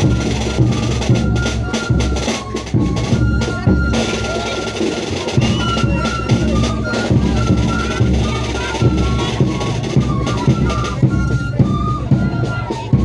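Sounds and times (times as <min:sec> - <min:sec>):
drum beats: 0:00.0 - 0:13.0
wind instruments melody: 0:00.0 - 0:13.0.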